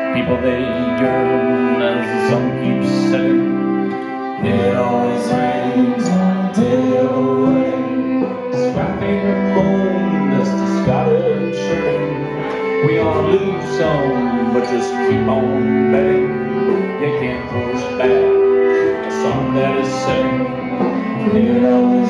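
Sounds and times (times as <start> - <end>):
acoustic guitar strumming: 0.0 - 22.0
bowed cello and violin: 0.0 - 22.0
person singing: 0.0 - 22.0.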